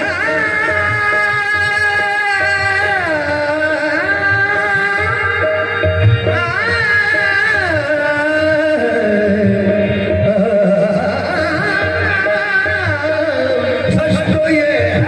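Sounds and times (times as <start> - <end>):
person singing long melody: 0.0 - 15.0
tabla drumming: 0.0 - 15.0.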